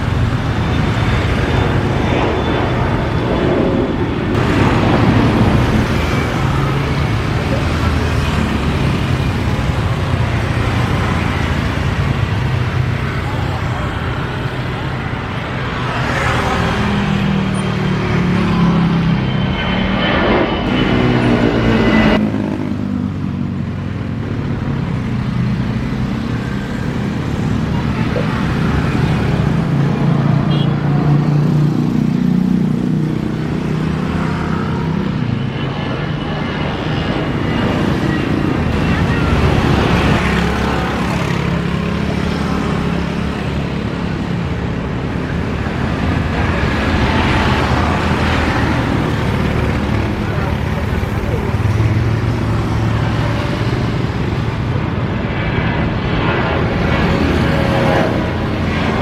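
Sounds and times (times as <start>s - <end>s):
loud engine noise: 0.0s - 59.0s.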